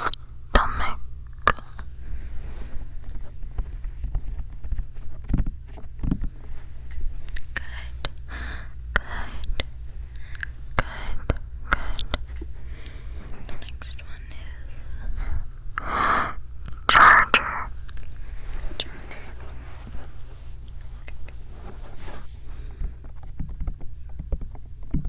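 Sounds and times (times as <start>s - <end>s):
steady low rumble: 0.0s - 23.3s.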